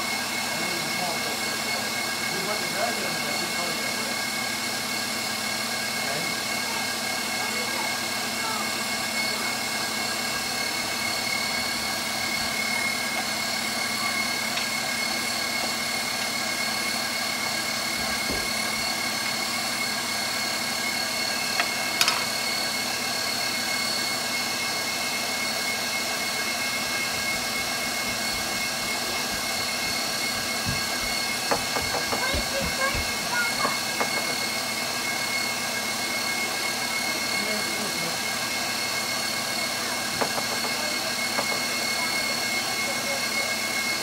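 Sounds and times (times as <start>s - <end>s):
stand mixer motor hum and whine: 0.0s - 44.0s.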